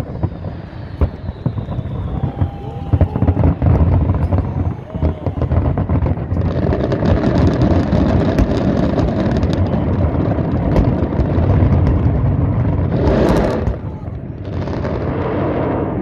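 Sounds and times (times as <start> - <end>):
fireworks crackling and popping: 0.0 - 16.0
fireworks rumble: 0.0 - 16.0.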